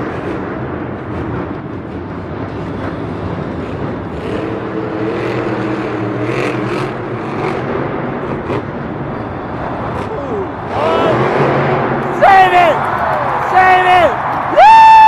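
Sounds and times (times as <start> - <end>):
truck engine revving: 0.0 - 13.5.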